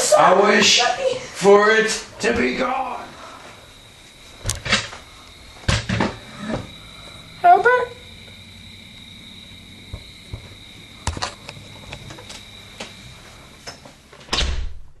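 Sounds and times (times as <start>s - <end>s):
crickets chirring: 0.0s - 14.4s.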